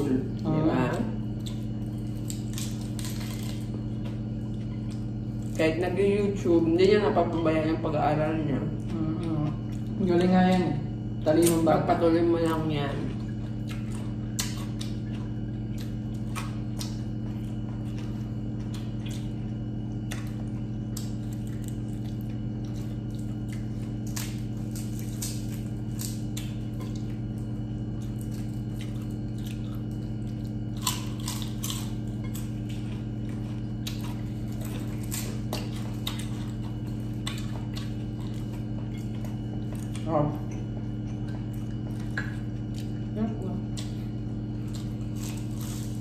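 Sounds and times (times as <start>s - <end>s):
chewing and crunching crispy food: 0.0s - 46.0s
steady low hum: 0.0s - 46.0s.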